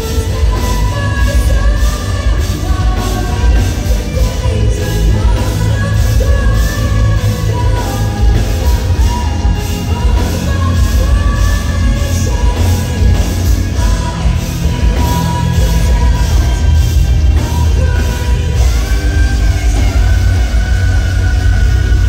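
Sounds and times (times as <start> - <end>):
distorted electric guitar: 0.0 - 22.0
drums: 0.0 - 22.0
heavy bass: 0.0 - 22.0
woman singing: 0.0 - 22.0.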